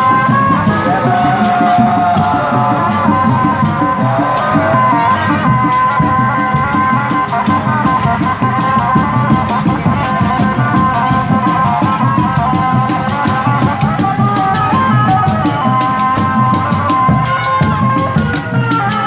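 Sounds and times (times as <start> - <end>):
held gliding melody: 0.0 - 19.0
steady drumming: 0.0 - 19.0.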